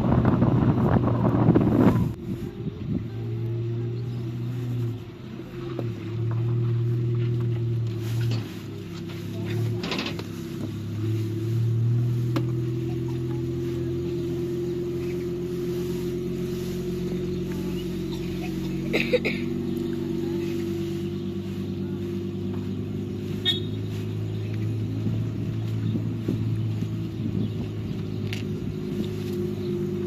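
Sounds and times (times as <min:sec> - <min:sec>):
engine hum: 0:00.0 - 0:30.0.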